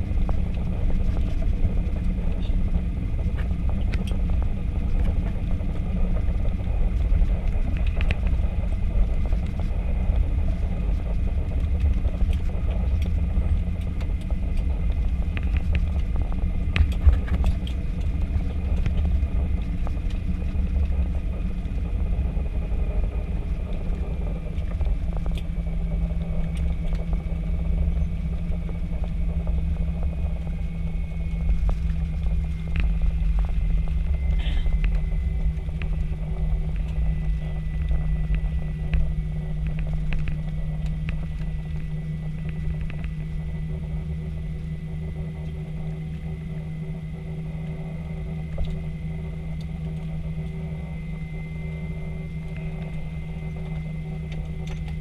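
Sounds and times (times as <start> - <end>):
faint high engine whine: 0.0 - 55.0
low rumble of wheels and engines: 0.0 - 55.0.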